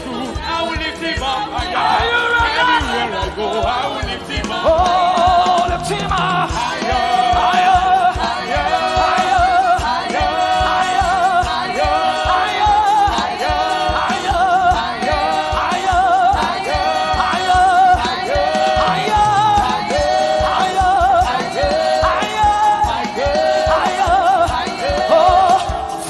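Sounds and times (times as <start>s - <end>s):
fast steady drum beat: 0.0s - 26.0s
voices singing gospel: 0.0s - 26.0s.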